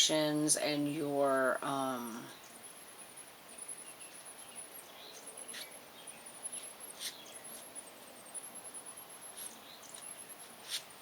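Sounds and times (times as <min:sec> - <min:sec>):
faint high-pitched chirping: 0:00.0 - 0:11.0.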